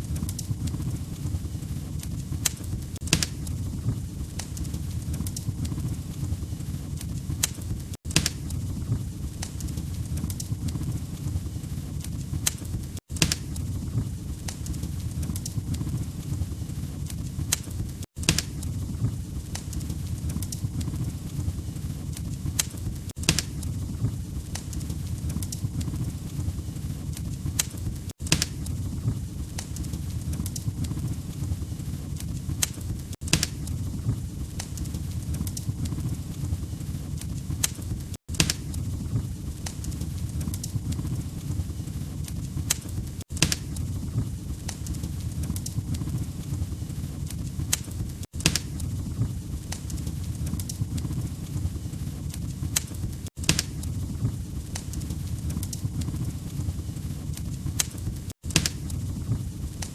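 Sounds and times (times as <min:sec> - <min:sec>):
burning logs rumbling: 0:00.0 - 0:59.9
fire pops and snaps: 0:00.0 - 0:59.9.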